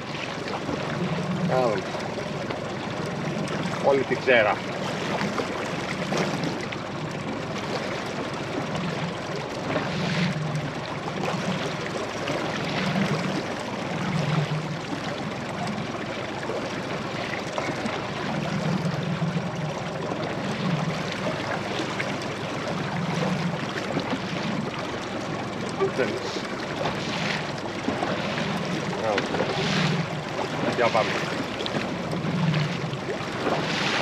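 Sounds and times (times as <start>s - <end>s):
low pulsing engine: 0.0s - 34.0s
water rushing along boat hull: 0.0s - 34.0s.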